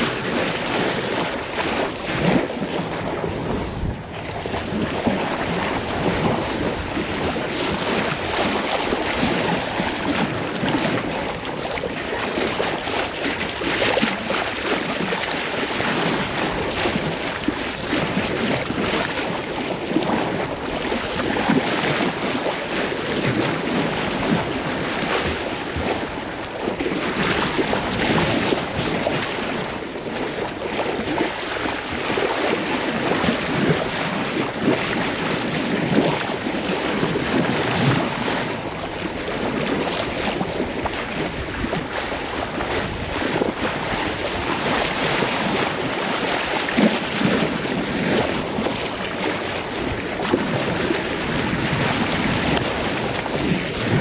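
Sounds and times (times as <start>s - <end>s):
sea water rushing and splashing: 0.0s - 54.0s
wind buffeting microphone: 0.0s - 54.0s.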